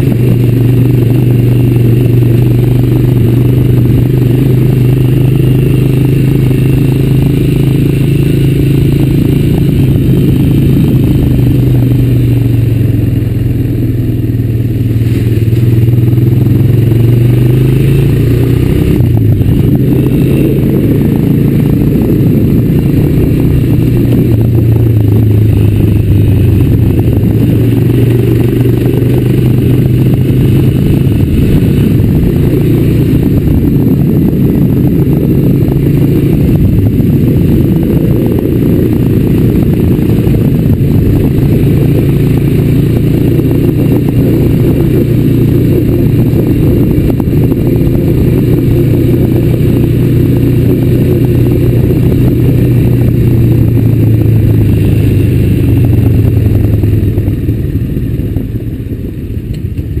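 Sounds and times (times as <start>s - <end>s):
atv engine running: 0.0s - 60.0s.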